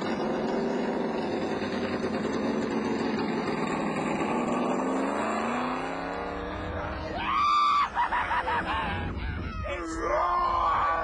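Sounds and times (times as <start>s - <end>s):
convoy of vehicle engines: 0.0s - 11.0s.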